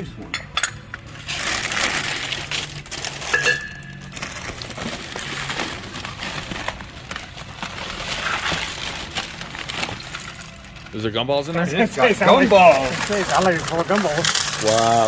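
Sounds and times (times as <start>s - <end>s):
wrapping crinkling: 1.0s - 15.0s.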